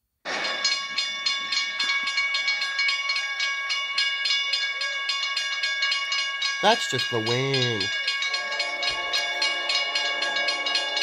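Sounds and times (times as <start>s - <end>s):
railroad crossing bell ringing: 0.3s - 11.0s.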